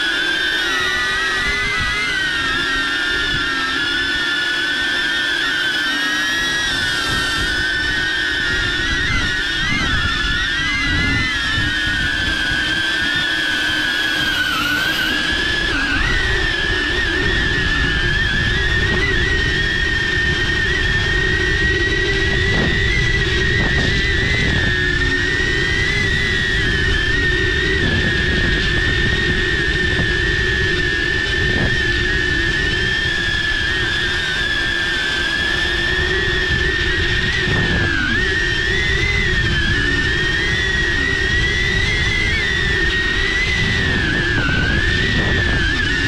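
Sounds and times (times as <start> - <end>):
drone propellers whining: 0.0 - 46.0
wind noise: 0.0 - 46.0.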